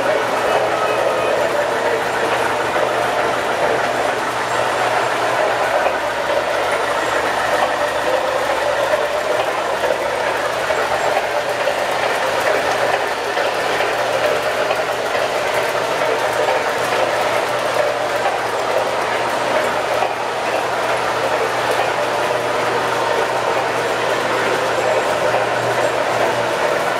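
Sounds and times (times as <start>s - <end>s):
model train rolling rumble and whir: 0.0s - 26.9s.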